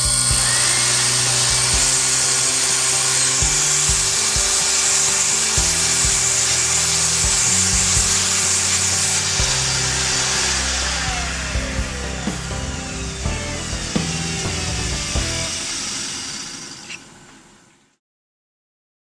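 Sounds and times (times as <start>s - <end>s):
motor tones changing pitch: 0.0s - 17.2s
milling machine spindle whine: 0.0s - 17.6s.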